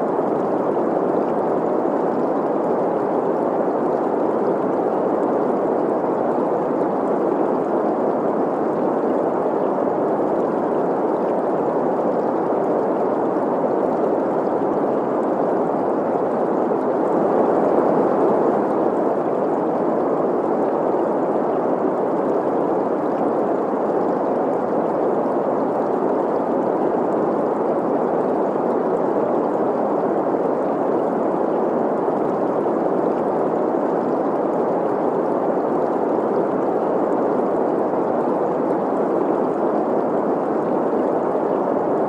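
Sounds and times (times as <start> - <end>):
flowing stream: 0.0 - 42.0.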